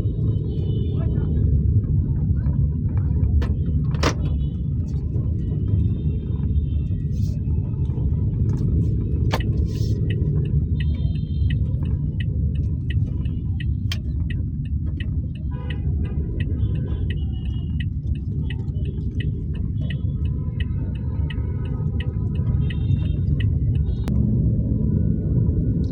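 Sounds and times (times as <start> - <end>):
car engine and road rumble: 0.0 - 25.9
faint traffic clicks: 0.1 - 25.9.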